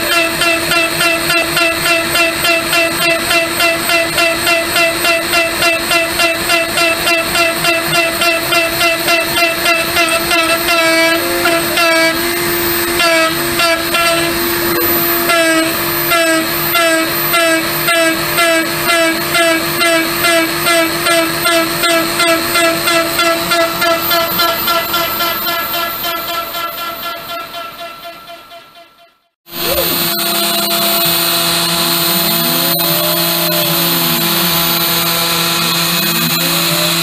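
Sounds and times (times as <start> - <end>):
end mill cutting chatter: 0.0 - 37.0
router spindle high whine: 0.0 - 37.0.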